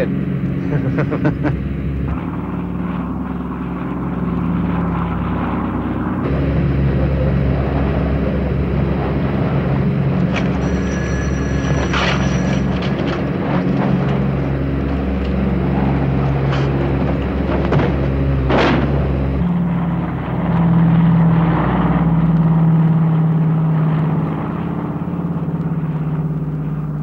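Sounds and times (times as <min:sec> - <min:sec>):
propeller engines droning: 0:00.0 - 0:27.0
rushing wind: 0:00.0 - 0:27.0.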